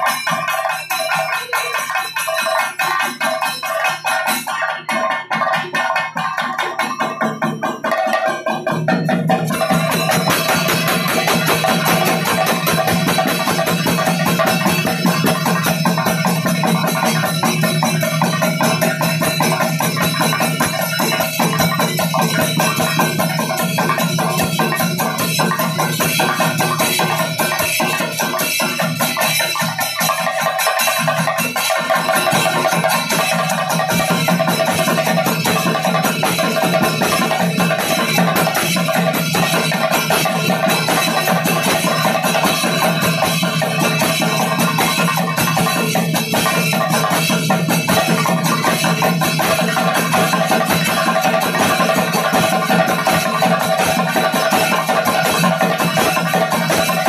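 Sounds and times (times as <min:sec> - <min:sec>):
drums beaten with sticks: 0:00.0 - 0:57.0
hand cymbals ringing: 0:00.0 - 0:57.0.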